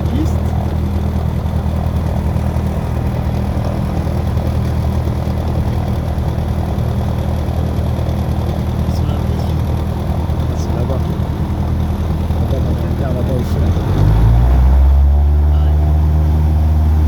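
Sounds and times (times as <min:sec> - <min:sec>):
small plane engine droning: 0:00.0 - 0:17.0.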